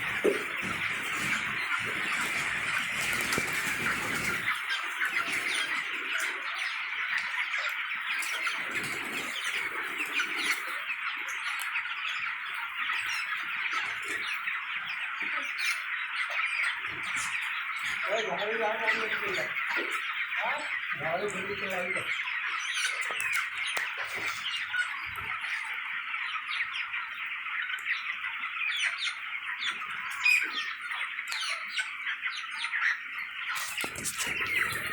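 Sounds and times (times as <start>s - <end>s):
flock of chickens calling: 0.0s - 34.9s.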